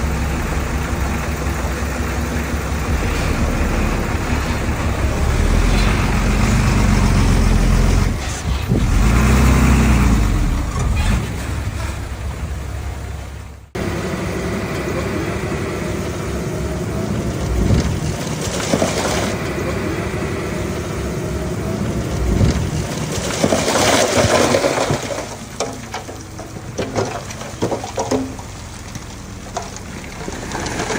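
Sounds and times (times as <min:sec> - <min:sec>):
soil scraping and rushing: 0:00.0 - 0:13.3, 0:14.8 - 0:30.9
bulldozer diesel engine running: 0:00.0 - 0:30.9.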